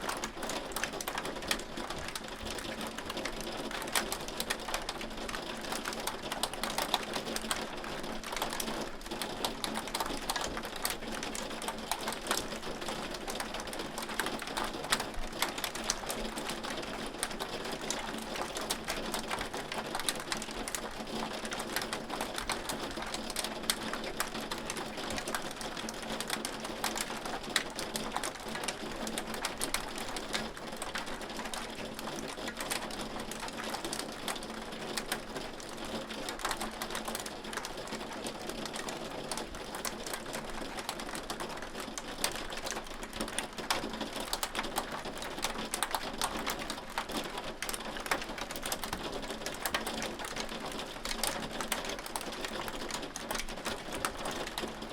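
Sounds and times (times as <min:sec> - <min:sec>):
hail clattering on hard surface: 0:00.1 - 0:54.9.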